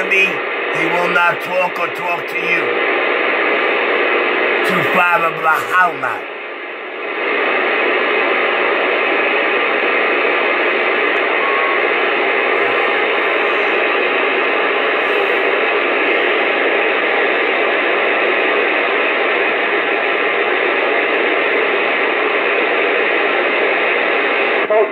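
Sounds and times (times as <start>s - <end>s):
radio static hiss: 0.0s - 24.9s.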